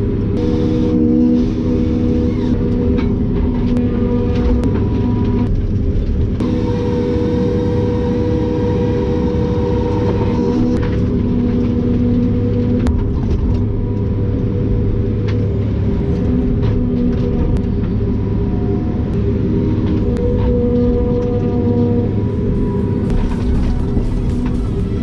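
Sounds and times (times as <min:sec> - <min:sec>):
harvester diesel engine and hydraulics: 0:00.0 - 0:25.0
whine changing pitch: 0:00.0 - 0:25.0.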